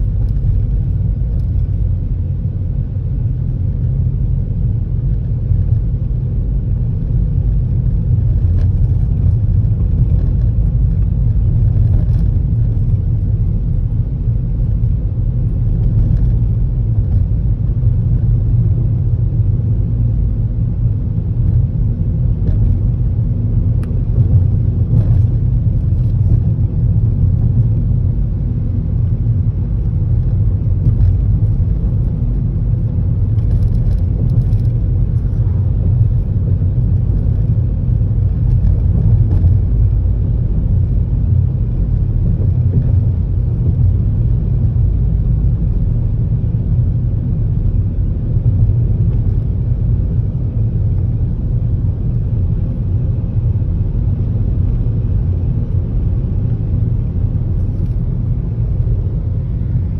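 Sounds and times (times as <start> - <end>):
car engine: 0.0 - 59.9
tyre and road noise: 0.0 - 59.9.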